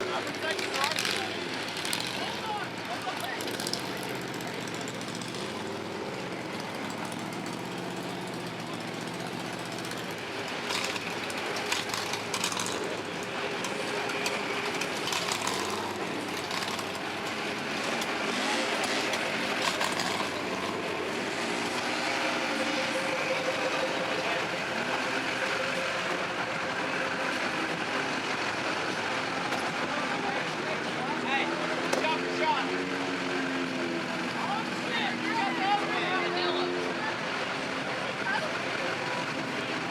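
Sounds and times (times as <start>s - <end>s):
crowd noise: 0.0s - 39.9s
truck engine idling: 0.0s - 39.9s.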